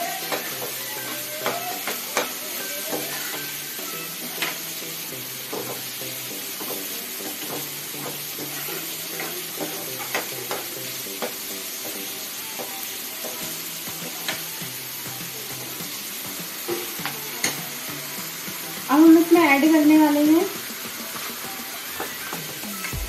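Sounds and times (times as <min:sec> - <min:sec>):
spatula scraping frying pan: 0:00.0 - 0:19.9
vegetables sizzling in oil: 0:00.0 - 0:23.0.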